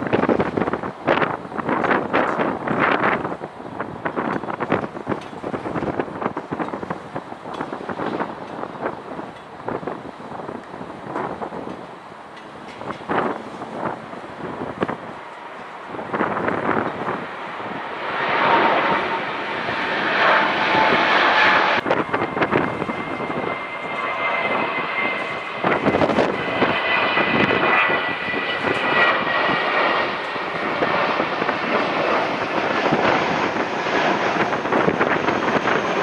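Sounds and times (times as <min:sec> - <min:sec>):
jet airliner engines roaring: 0:00.0 - 0:36.0.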